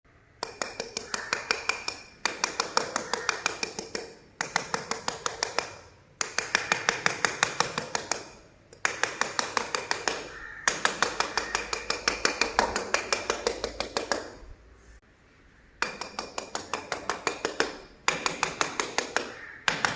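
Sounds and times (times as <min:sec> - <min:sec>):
tapping on ringing stone slab: 0:00.4 - 0:14.3, 0:15.8 - 0:19.9.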